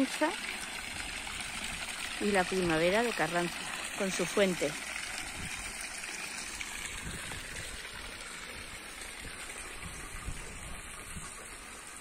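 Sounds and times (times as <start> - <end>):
fountain water splashing into basin: 0.0 - 12.0.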